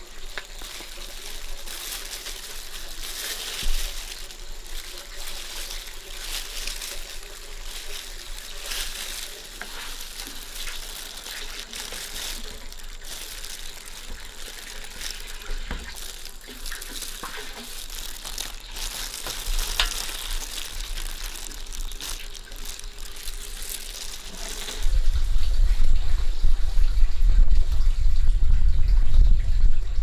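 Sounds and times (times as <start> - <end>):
stirring clicks: 0.0 - 24.9
food sizzling in a pan: 0.0 - 25.0.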